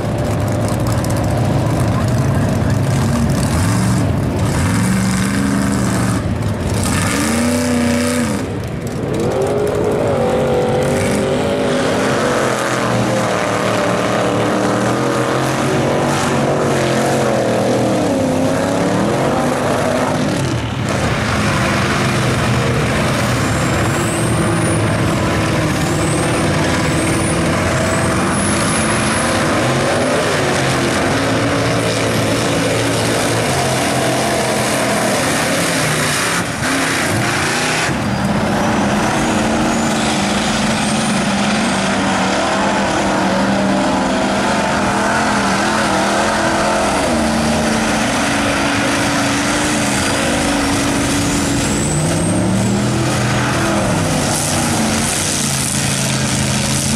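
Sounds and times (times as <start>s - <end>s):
truck engines revving in mud: 0.0s - 56.9s.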